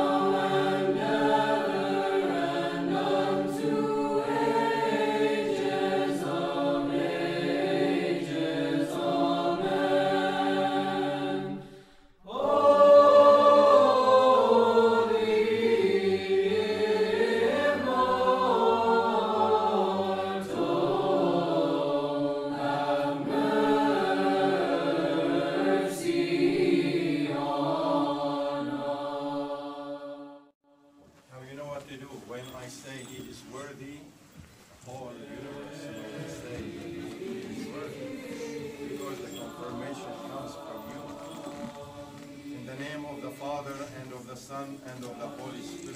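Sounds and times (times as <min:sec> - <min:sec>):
choir singing liturgical chant: 0:00.0 - 0:33.9, 0:34.8 - 0:45.9.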